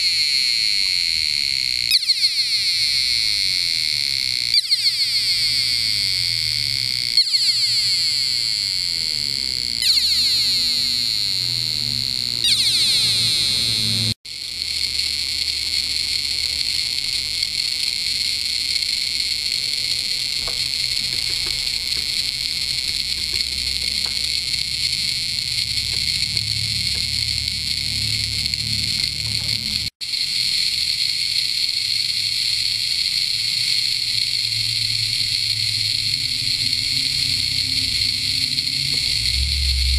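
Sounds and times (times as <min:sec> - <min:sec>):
shrill sweeping buzzes: 0:00.0 - 0:14.2, 0:17.8 - 0:30.2, 0:32.2 - 0:39.9.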